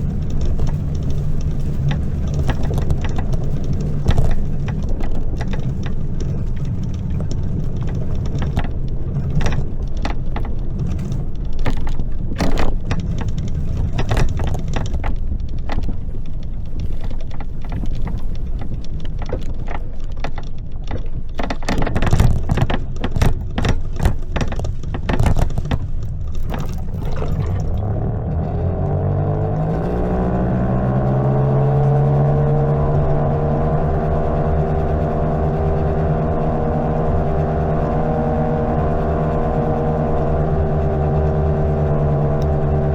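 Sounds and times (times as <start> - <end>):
mini bike rattling over rough ground: 0.0 - 42.9.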